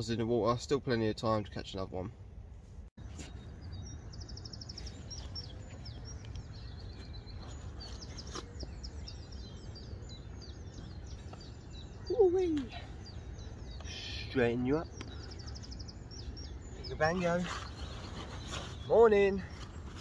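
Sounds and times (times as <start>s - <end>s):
songbirds chirping and singing: 3.0s - 20.0s.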